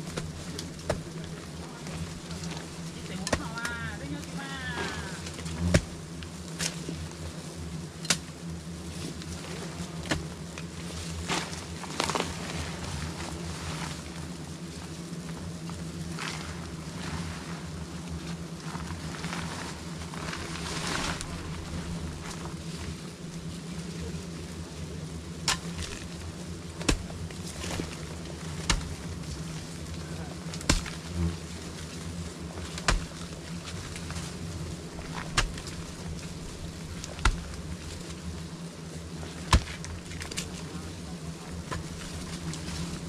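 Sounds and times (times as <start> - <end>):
bees buzzing: 0.0 - 43.0.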